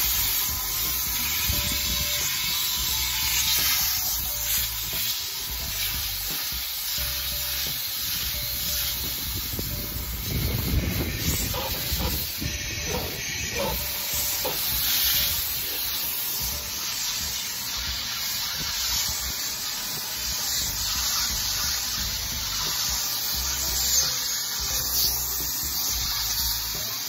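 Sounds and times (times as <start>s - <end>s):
shop vacuum suction hiss: 0.0s - 27.0s.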